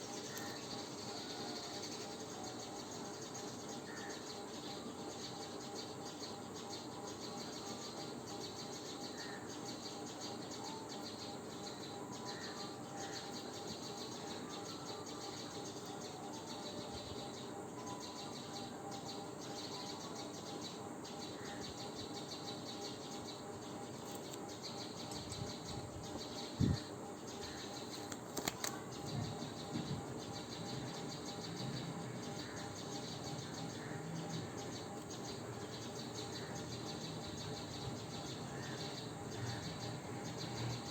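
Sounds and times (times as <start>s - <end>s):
birds chirping: 0.0s - 40.9s
insects chirping: 0.0s - 40.9s.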